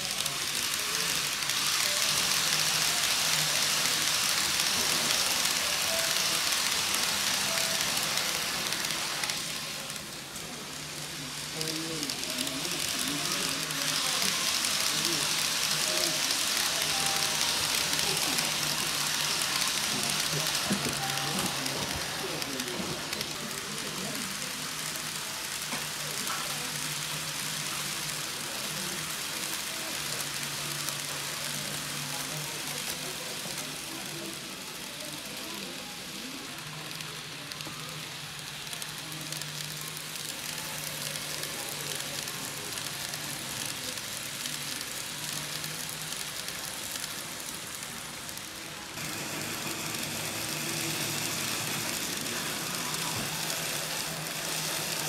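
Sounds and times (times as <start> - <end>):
model train running on track: 0.0 - 55.0.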